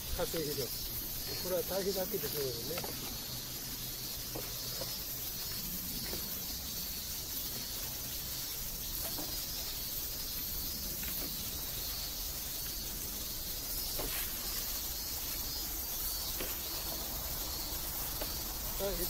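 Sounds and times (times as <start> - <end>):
insects shrilling: 0.0 - 19.0.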